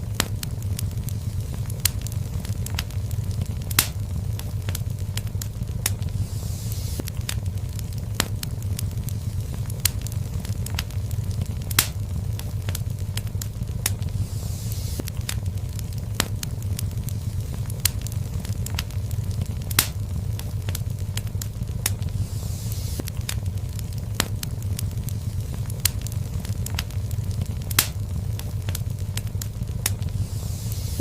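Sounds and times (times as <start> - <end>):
fire crackles and pops: 0.0 - 31.0
fireplace flames rumbling: 0.0 - 31.0.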